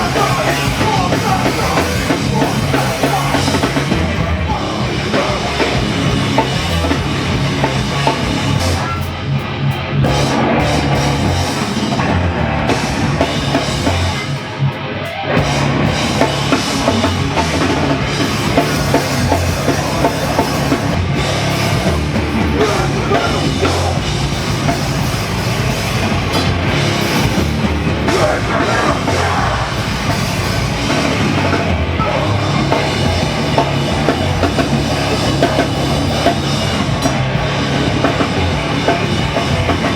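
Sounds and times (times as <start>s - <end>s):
heavy punk rock music: 0.0s - 39.9s.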